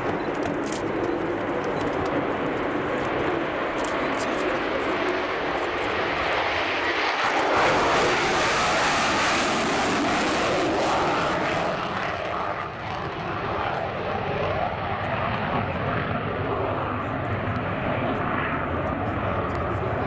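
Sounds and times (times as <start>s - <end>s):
jet taking off with afterburner: 0.0s - 20.0s.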